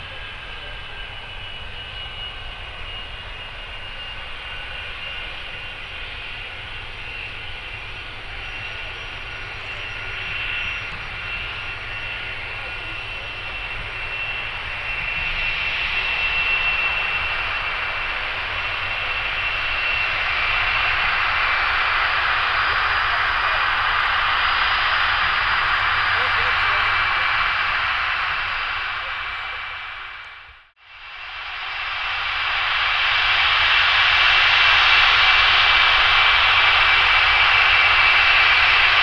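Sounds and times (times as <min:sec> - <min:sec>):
jet engines whining: 0:00.0 - 0:39.0.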